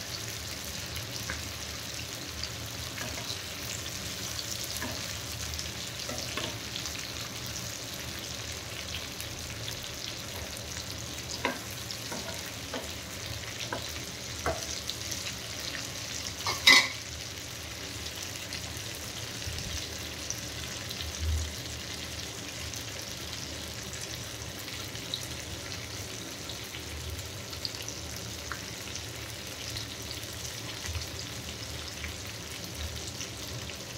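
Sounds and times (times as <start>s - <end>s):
vegetables sizzling in oil: 0.0s - 33.9s.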